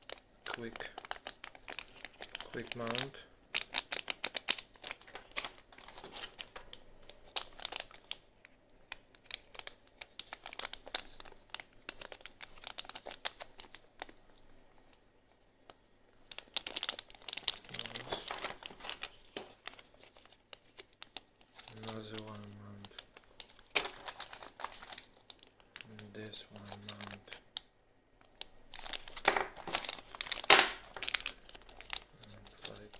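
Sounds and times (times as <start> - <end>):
plastic bag crinkling: 0.0 - 32.9.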